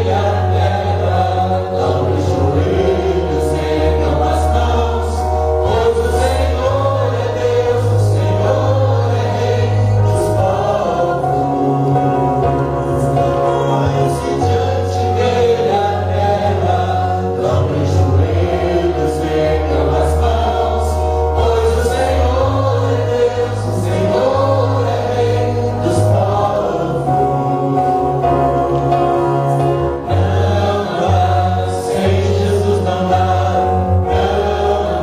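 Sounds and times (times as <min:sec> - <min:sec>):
instrumental accompaniment: 0:00.0 - 0:35.0
sustained bass notes: 0:00.0 - 0:35.0
voices singing a worship song: 0:00.0 - 0:35.0.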